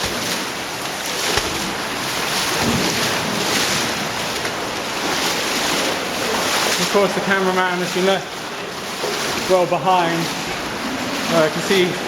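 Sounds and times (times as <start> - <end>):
stream rushing: 0.0 - 12.0
water churning around wading legs: 0.0 - 12.0.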